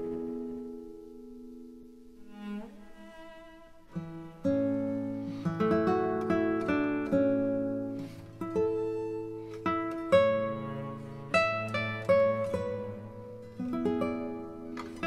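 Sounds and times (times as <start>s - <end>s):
plucked string music: 0.0s - 15.0s.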